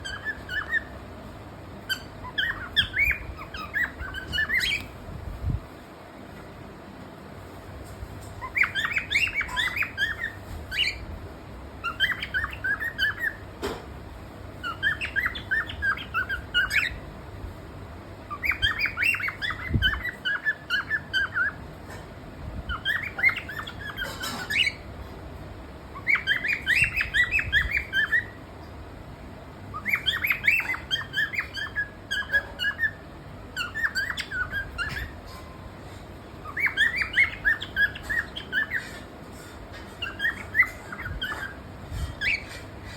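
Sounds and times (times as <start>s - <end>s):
bird chirping: 0.0s - 5.6s, 8.2s - 13.8s, 14.5s - 17.2s, 18.2s - 22.0s, 22.6s - 25.0s, 25.9s - 28.8s, 29.6s - 42.9s.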